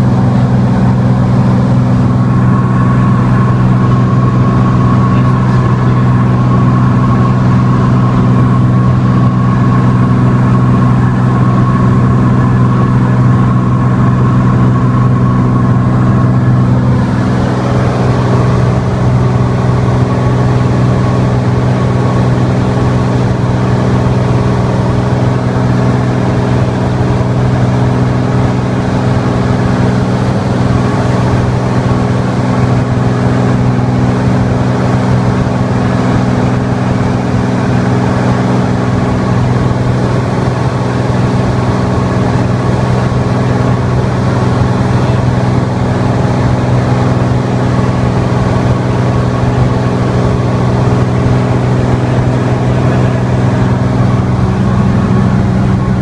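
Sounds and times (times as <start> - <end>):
aircraft engine droning in cabin: 0.0 - 56.0
steady rushing noise: 0.0 - 56.0.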